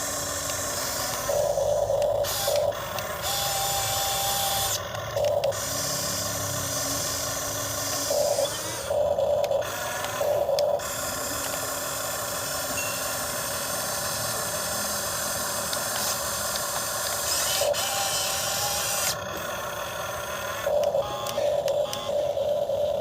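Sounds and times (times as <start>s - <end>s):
electric motors whining: 0.0s - 23.0s.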